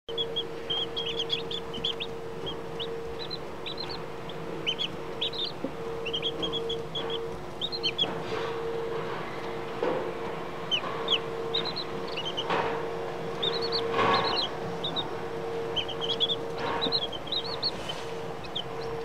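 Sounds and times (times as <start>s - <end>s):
chicks peeping: 0.1s - 19.0s
steady low hum: 0.1s - 19.0s.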